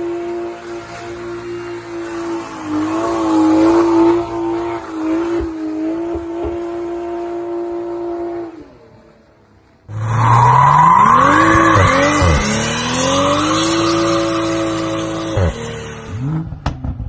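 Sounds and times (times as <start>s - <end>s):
car engine at high revs: 0.0s - 9.2s, 9.9s - 17.0s.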